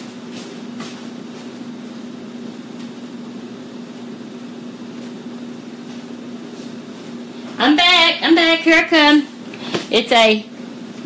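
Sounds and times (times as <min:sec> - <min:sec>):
mechanical hum with hiss: 0:00.0 - 0:11.0.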